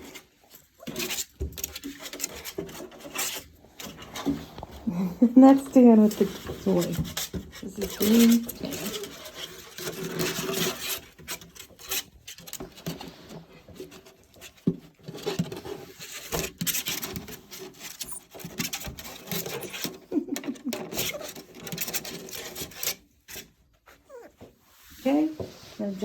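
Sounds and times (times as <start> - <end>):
puppy paws pattering on floor: 0.0 - 22.9
puppies tussling over toy: 0.0 - 23.0.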